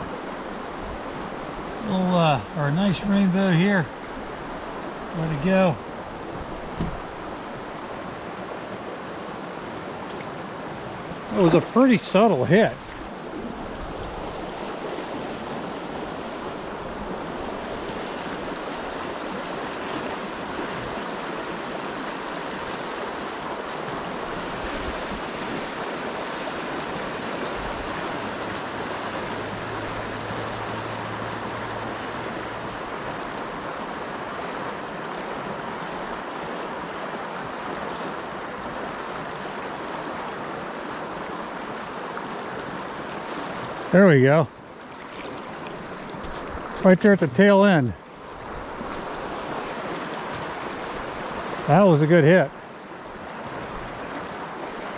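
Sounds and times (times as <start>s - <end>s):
water rushing over rocks: 0.0s - 54.9s.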